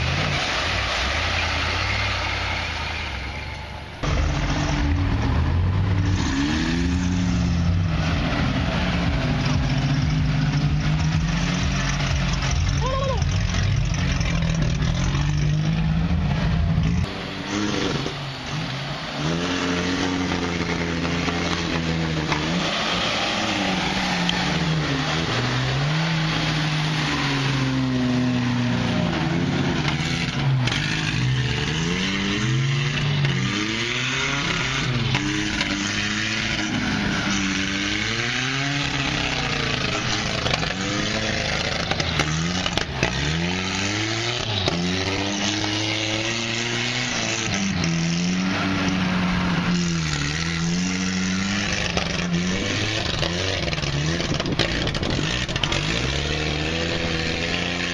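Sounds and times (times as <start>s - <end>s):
truck churning through mud and water: 0.0s - 57.9s
truck engine revving: 0.0s - 57.9s.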